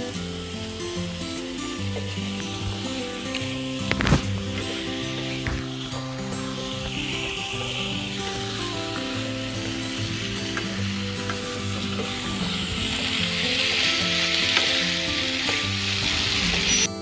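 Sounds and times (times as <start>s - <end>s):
background music: 0.0s - 17.0s
chicken sizzling in a frying pan: 0.0s - 17.0s.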